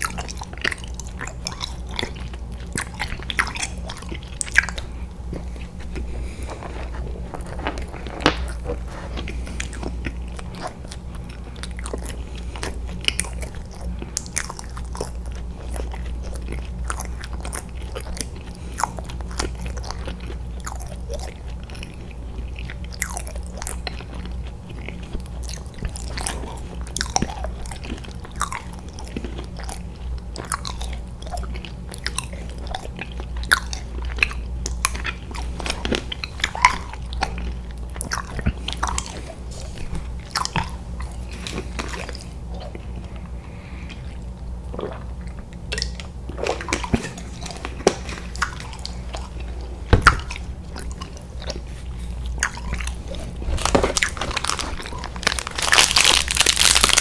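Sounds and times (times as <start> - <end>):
chewing soft candy: 0.0 - 57.0
steady low hum: 0.0 - 57.0.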